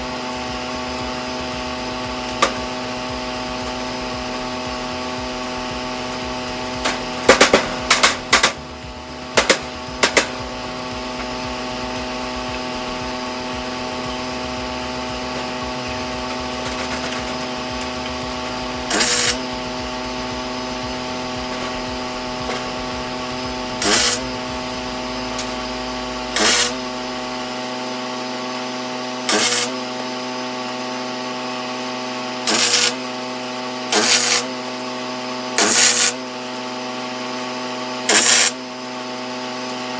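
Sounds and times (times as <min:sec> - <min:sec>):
electrical hum: 0:00.0 - 0:34.8
welding bursts: 0:00.0 - 0:39.9.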